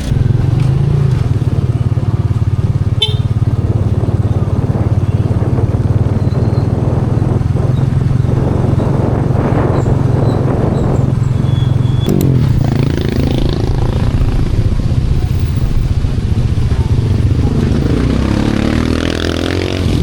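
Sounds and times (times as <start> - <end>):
engine running loudly: 0.0 - 20.0.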